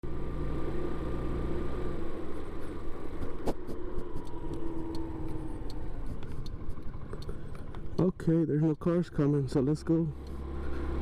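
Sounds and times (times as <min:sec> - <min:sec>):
scooter engine idling: 0:00.1 - 0:09.0.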